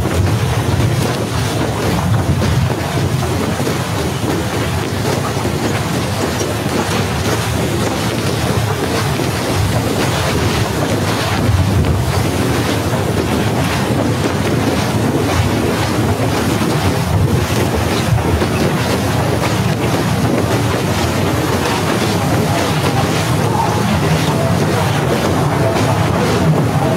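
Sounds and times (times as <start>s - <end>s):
wind noise with low rumble: 0.0s - 26.9s.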